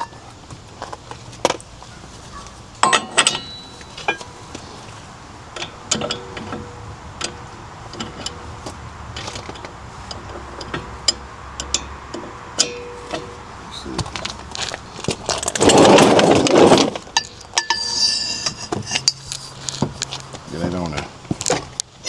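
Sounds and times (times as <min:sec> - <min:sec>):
hand tools clanking against steel: 0:00.0 - 0:22.0.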